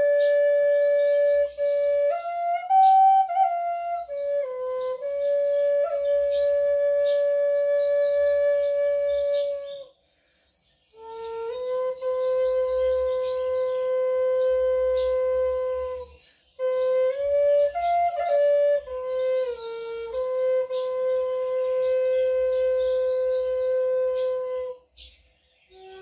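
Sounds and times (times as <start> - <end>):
flute playing long notes: 0.0 - 9.9, 10.9 - 24.9, 25.7 - 26.0
birds chirping: 0.0 - 26.0.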